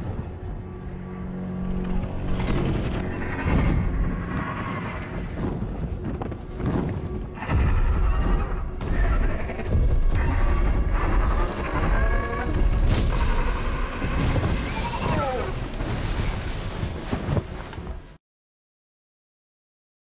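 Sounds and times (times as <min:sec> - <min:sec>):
dramatic film score: 0:00.0 - 0:18.2.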